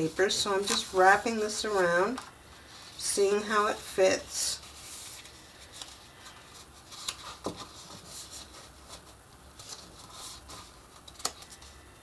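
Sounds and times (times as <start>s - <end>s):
paper rustling: 0.0s - 3.0s, 4.6s - 11.8s.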